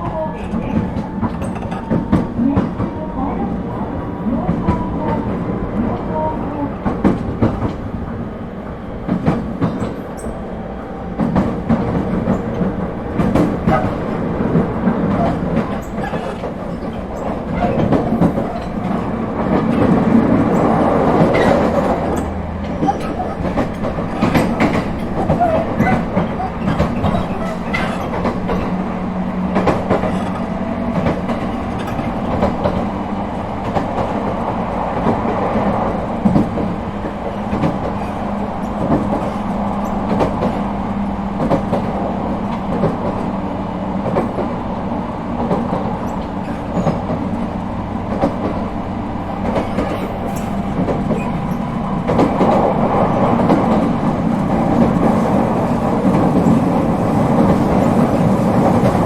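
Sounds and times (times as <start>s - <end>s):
rail joint clicks: 0.0s - 59.0s
train wheel-on-rail rumble: 0.0s - 59.0s.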